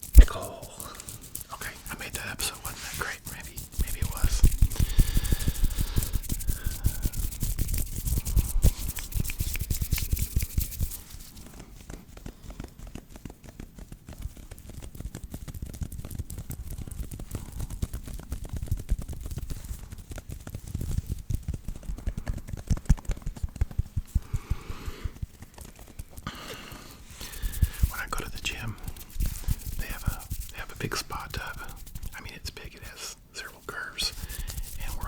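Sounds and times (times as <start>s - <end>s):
hands rubbing together: 0.0s - 35.0s.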